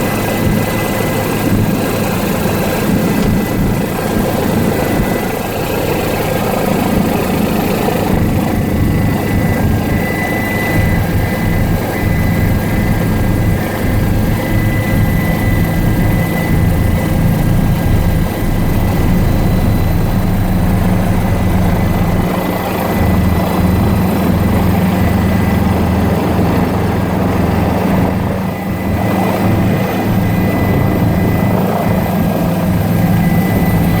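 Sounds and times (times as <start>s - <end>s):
helicopter rotor and engine drone: 0.0s - 34.0s
high whine: 0.0s - 34.0s.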